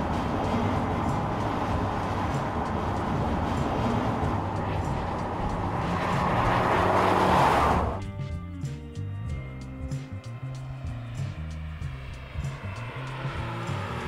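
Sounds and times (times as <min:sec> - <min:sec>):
car engine rumble: 0:00.0 - 0:14.0
tyres rushing on road: 0:00.0 - 0:14.0.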